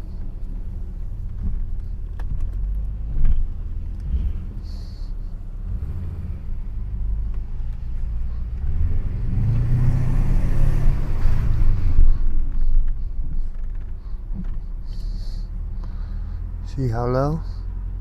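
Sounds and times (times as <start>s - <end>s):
car engine low exhaust drone: 0.0s - 18.0s.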